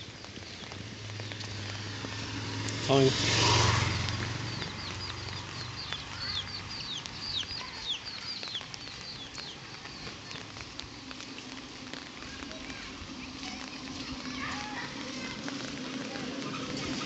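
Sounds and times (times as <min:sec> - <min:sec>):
birds chirping: 0:00.0 - 0:17.0
motorcycle engine passing: 0:00.3 - 0:17.0.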